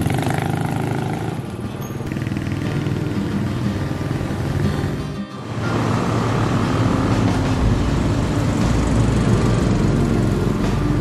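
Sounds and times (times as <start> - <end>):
bus engine running: 0.0 - 11.0
motorcycle passing: 0.0 - 11.0.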